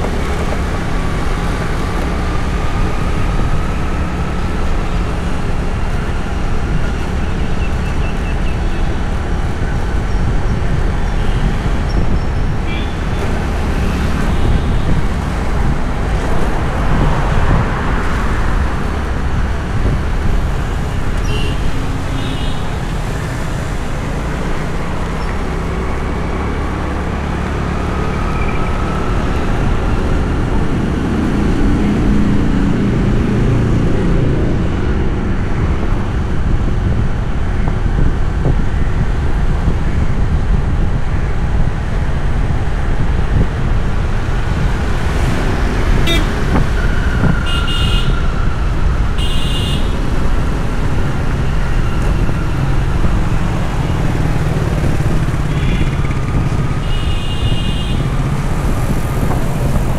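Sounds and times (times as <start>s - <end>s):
street traffic rumble: 0.0s - 59.9s.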